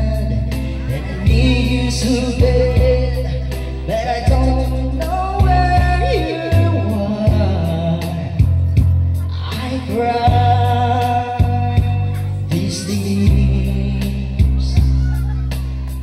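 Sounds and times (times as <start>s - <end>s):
backing track with heavy bass: 0.0s - 16.0s
person singing karaoke: 0.0s - 16.0s.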